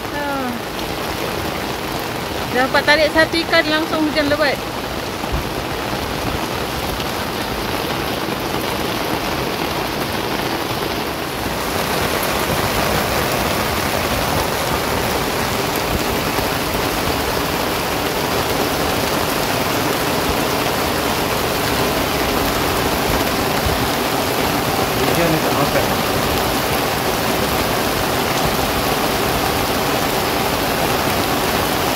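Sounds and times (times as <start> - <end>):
heavy rain on water: 0.0 - 31.9.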